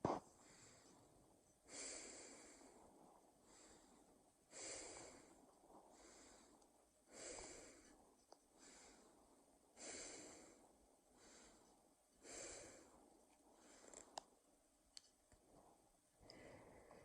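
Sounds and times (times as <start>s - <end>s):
slow heavy breathing: 0.2s - 14.4s, 15.4s - 17.0s.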